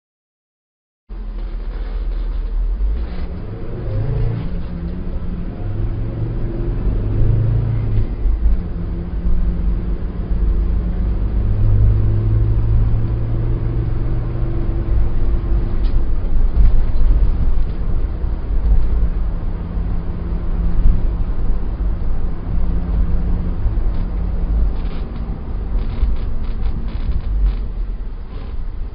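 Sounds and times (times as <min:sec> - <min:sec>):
car road and engine rumble: 0:01.1 - 0:28.9.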